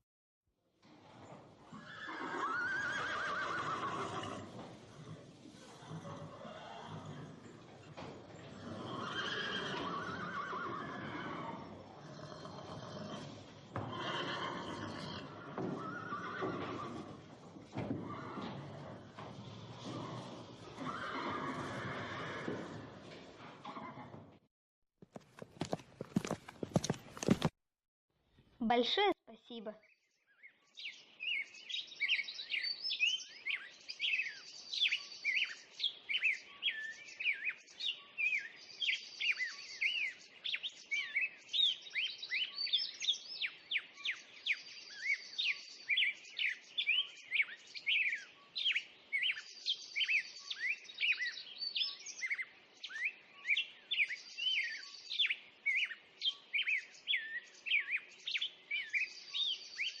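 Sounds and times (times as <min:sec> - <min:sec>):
songbirds chirping: 0:00.8 - 0:24.2, 0:28.6 - 1:00.0.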